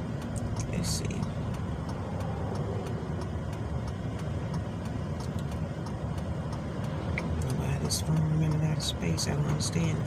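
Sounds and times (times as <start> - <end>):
low rumbling background noise: 0.0 - 10.0.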